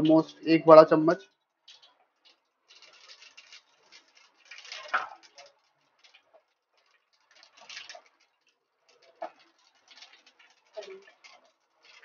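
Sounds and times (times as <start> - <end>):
seeds crackling in hot oil: 0.0 - 12.0
wooden spatula stirring seeds: 1.6 - 12.0.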